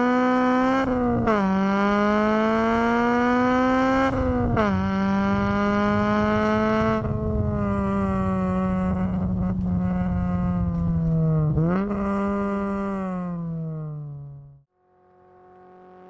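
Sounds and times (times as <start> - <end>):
car engine revving high: 0.0 - 14.6.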